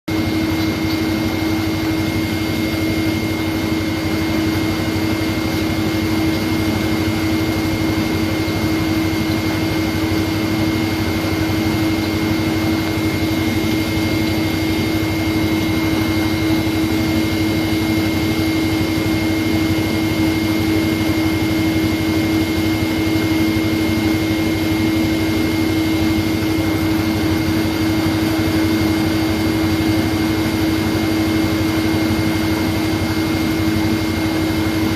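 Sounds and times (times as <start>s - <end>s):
faint high whine: 0.1s - 34.9s
machine hum: 0.1s - 34.9s.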